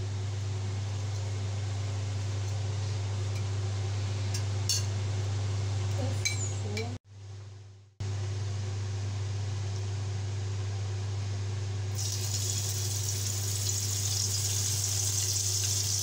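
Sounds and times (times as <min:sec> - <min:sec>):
kitchen fan humming: 0:00.0 - 0:16.0.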